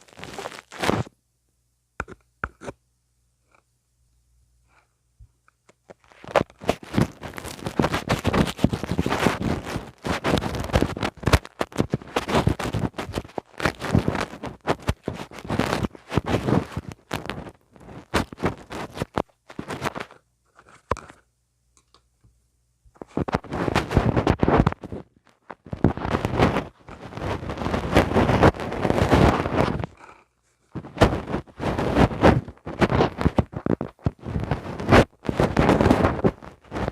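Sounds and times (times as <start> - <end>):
tool scratching against microphone: 2.0 - 2.8, 5.9 - 21.2, 23.0 - 36.9.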